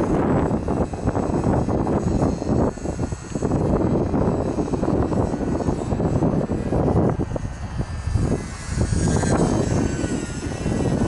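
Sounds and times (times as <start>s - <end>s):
model plane motor whine: 0.0s - 11.0s
wind buffeting microphone: 0.0s - 11.0s.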